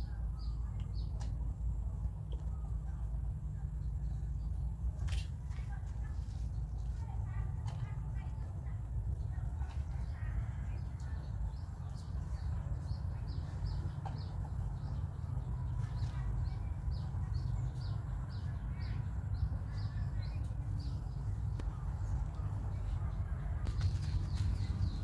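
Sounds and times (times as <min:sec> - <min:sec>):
small birds chirping: 0:00.0 - 0:25.0
steady low rumble: 0:00.0 - 0:25.0.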